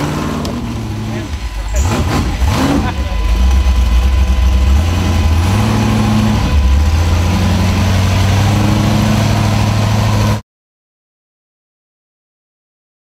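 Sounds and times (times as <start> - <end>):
engine running at low revs: 0.0 - 10.4.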